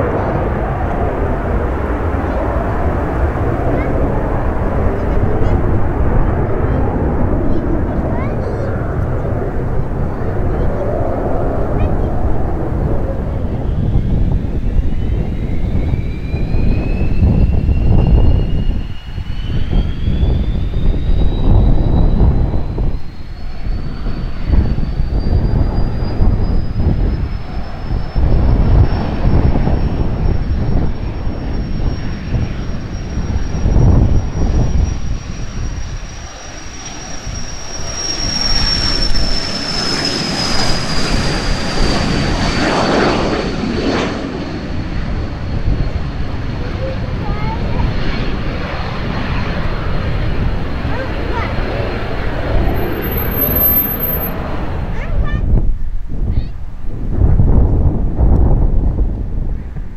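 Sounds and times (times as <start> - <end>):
jet engines whining: 0.0 - 55.5
wind buffeting microphone: 0.0 - 59.9.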